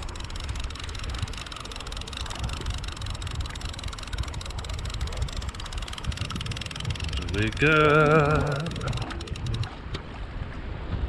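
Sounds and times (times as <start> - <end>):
hiss of wind and sea: 0.0 - 11.0
wind buffeting microphone: 0.0 - 11.0.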